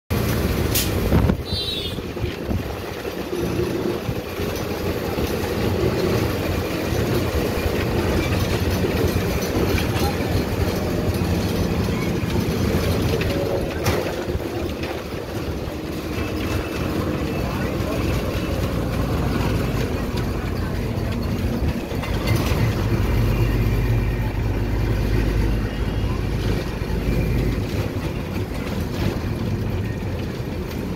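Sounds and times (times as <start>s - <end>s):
vehicle rumble with road noise: 0.1s - 30.9s.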